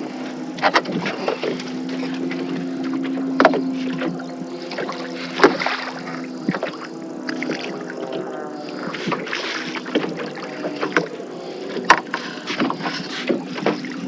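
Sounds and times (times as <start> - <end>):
boat motor humming: 0.0 - 14.0
knocks and clicks on boat: 0.0 - 14.0.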